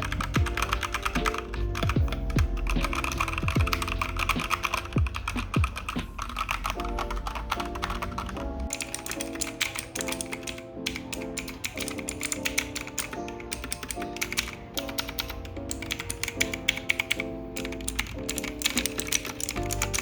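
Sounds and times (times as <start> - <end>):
background music: 0.0 - 20.0
mechanical keyboard typing: 0.0 - 20.0.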